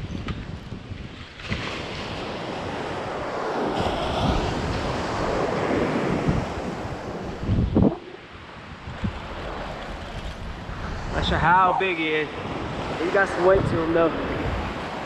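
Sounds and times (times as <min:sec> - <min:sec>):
wind buffeting microphone: 0:00.0 - 0:15.0
ocean surf breaking: 0:01.3 - 0:15.0.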